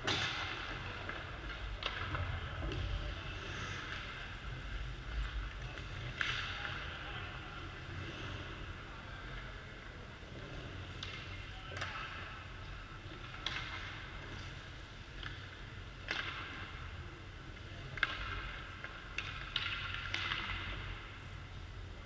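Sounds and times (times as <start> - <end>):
sticks hitting pucks: 0.0 - 9.8, 10.4 - 21.6.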